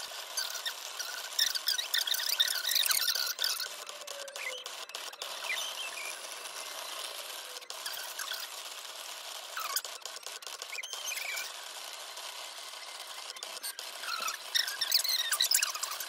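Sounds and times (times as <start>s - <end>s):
cutting machine motors whirring: 0.0s - 16.0s.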